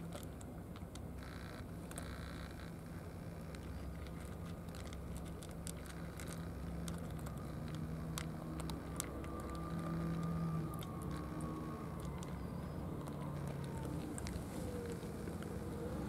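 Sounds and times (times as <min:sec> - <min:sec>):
cats crunching dry kibble: 0:00.0 - 0:16.0
steady low hum: 0:00.0 - 0:16.0.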